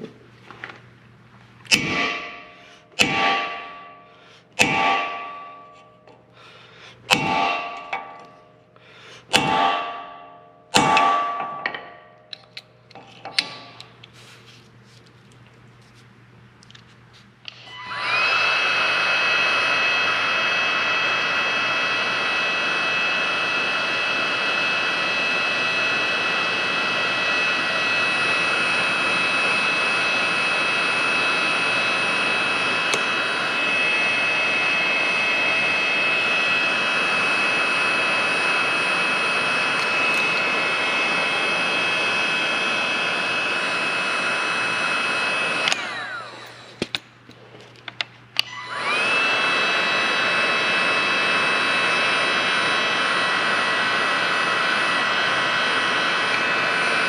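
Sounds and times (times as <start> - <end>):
heat gun motor whine: 1.7 - 14.0, 17.5 - 47.0, 48.4 - 57.0.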